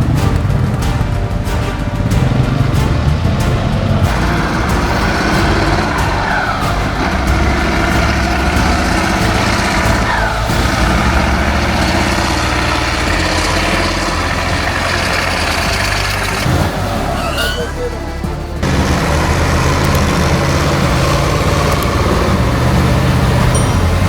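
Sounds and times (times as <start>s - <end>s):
heavy truck engine running: 0.0s - 24.0s.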